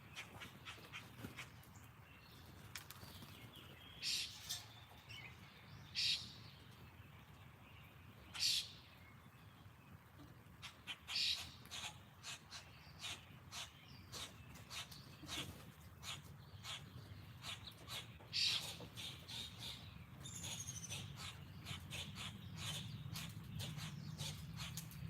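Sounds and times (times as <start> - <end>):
wild birds calling: 0.0 - 25.0.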